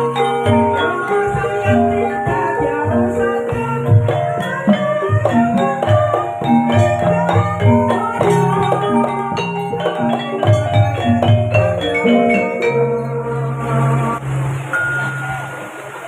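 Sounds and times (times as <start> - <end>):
struck pitched percussion ensemble: 0.0 - 15.7.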